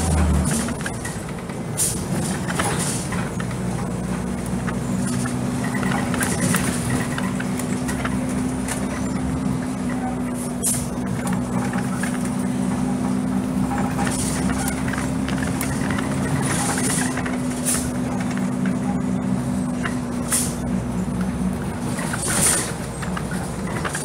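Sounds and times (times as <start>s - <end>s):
bus engine hum: 0.0s - 24.0s.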